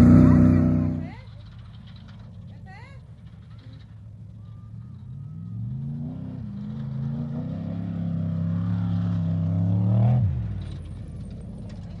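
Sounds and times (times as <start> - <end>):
off-road vehicle engine approaching: 0.0 - 12.0.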